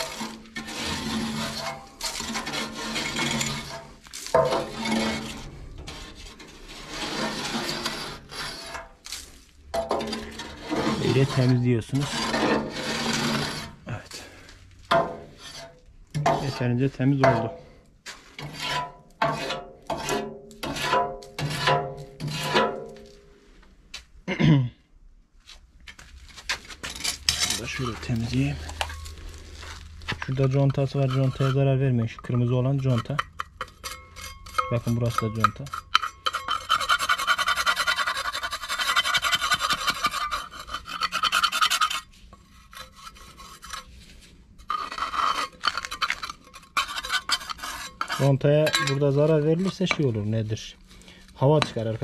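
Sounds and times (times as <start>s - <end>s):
metal tool scraping steel: 0.0s - 23.2s, 26.5s - 52.0s.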